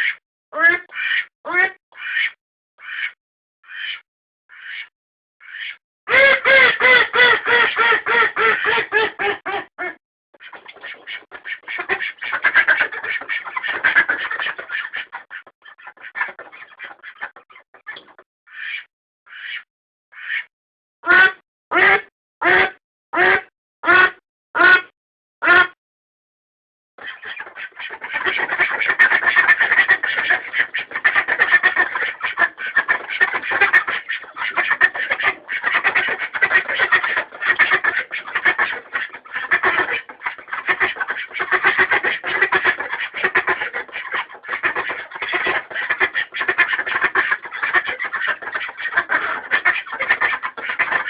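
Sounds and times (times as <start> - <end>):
ducks quacking: 0.0 - 25.8, 27.0 - 51.0.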